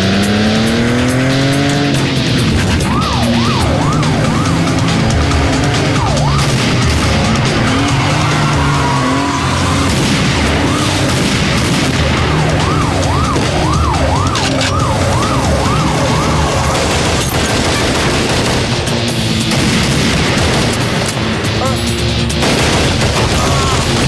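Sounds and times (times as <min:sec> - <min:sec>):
emergency vehicle siren wailing: 0:00.0 - 0:19.0, 0:23.1 - 0:24.0.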